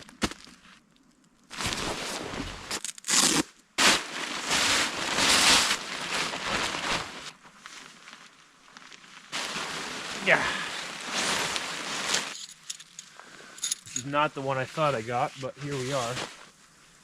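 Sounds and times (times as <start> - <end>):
tent fabric rustling and crinkling: 1.5 - 13.0, 14.1 - 17.0.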